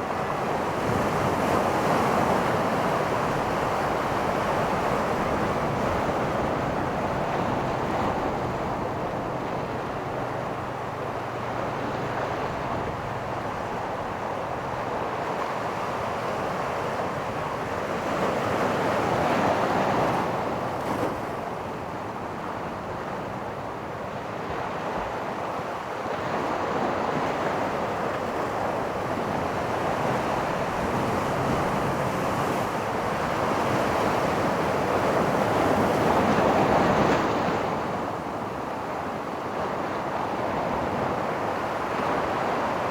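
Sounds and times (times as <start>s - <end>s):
ocean surf breaking on beach: 0.0s - 42.9s.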